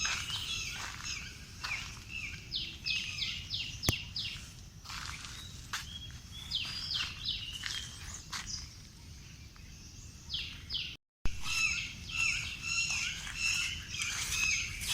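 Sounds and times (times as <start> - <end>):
bird chirping: 0.0 - 14.9.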